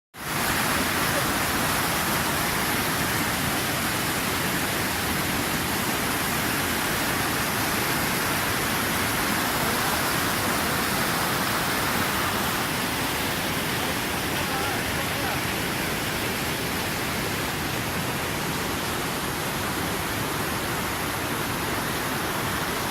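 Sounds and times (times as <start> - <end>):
fast-flowing water rushing: 0.2 - 22.9.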